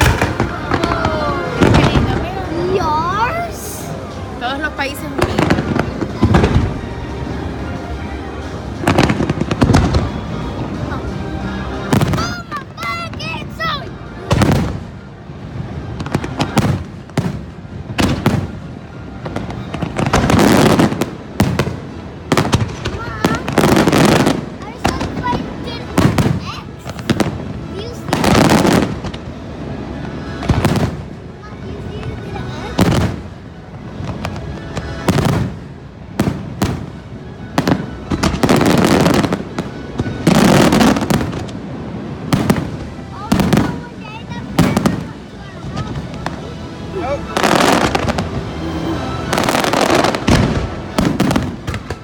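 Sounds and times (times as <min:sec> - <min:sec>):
fireworks bursting: 0:00.0 - 0:52.0
music playing: 0:00.0 - 0:52.0.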